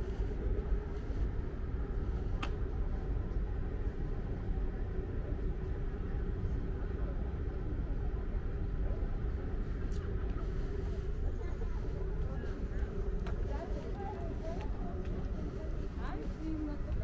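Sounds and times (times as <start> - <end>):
faint voices: 0.0 - 17.0
steady low rumble: 0.0 - 17.0.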